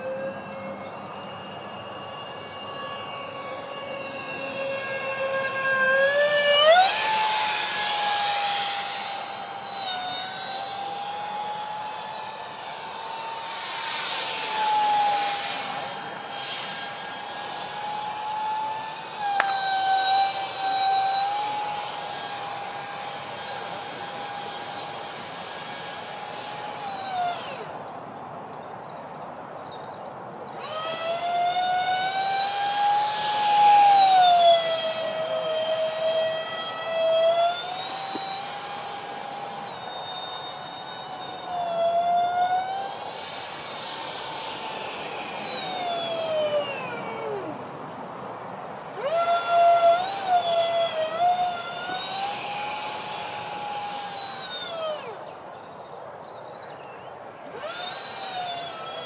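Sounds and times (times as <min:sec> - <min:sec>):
electric ducted fan jet whining: 0:00.0 - 0:29.2, 0:30.0 - 0:56.4, 0:57.0 - 0:59.0.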